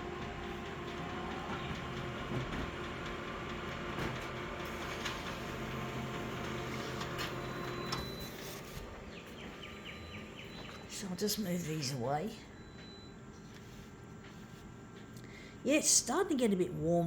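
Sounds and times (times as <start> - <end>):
small machine humming: 0.0 - 15.0.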